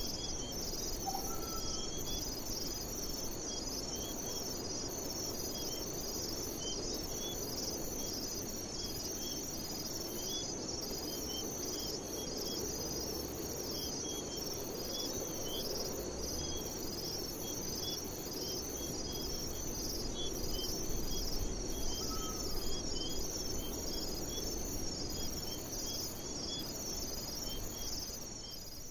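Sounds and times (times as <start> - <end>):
insects chirping: 0.0 - 28.9.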